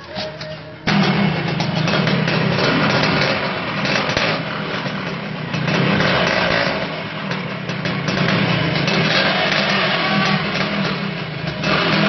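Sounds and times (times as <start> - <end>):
two-stroke motorcycle engine revving: 0.5 - 12.0.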